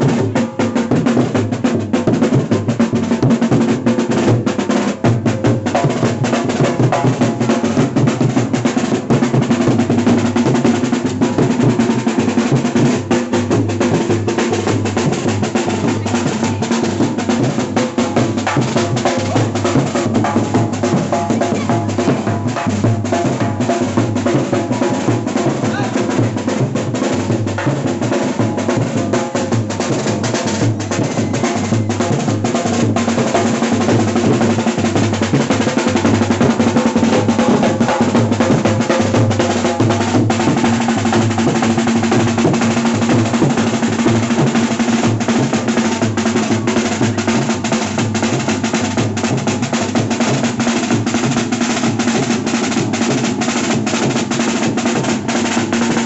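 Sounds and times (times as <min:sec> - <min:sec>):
bass drum beats: 0:00.0 - 0:56.0
snare drum rolls: 0:00.0 - 0:56.0.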